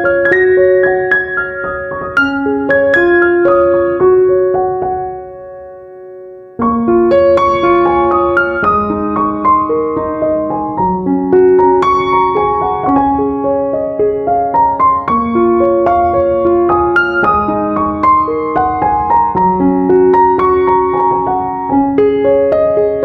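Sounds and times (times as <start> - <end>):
piano melody: 0.0 - 23.0.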